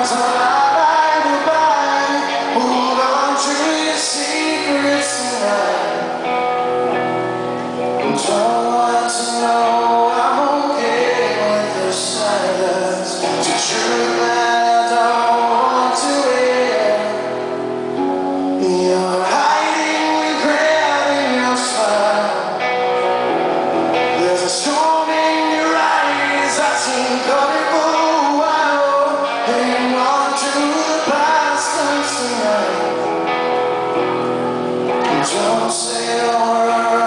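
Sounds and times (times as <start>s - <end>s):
man singing: 0.0s - 6.7s, 8.0s - 17.6s, 18.4s - 23.0s, 24.0s - 33.6s, 34.9s - 37.0s
live rock band: 0.0s - 37.0s.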